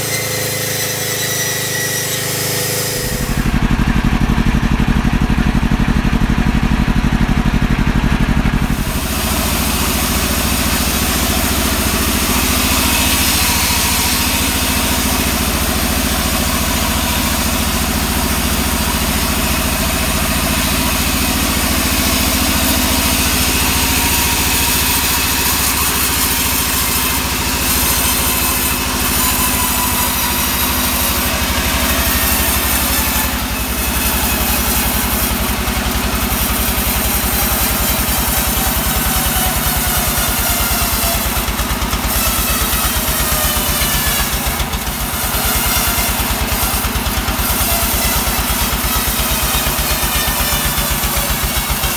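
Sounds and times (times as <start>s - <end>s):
saw blade hissing through log: 0.0s - 3.5s, 8.7s - 51.9s
sawmill engine humming: 0.0s - 51.9s.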